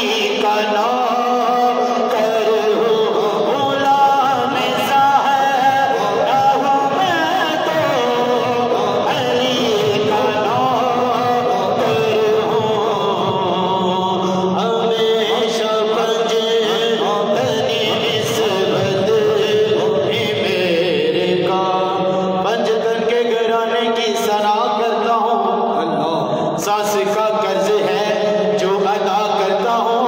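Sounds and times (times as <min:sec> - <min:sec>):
person singing devotional melody: 0:00.0 - 0:30.0.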